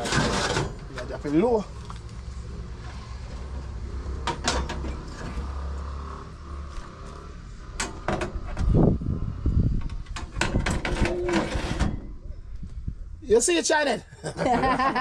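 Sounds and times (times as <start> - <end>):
low steady rumble: 0.0 - 13.2.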